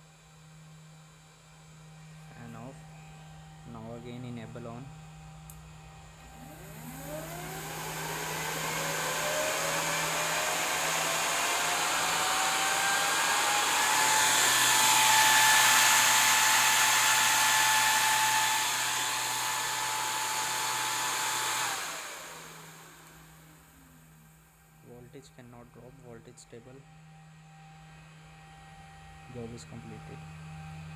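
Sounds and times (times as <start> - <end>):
electric fan whining: 0.0 - 30.9.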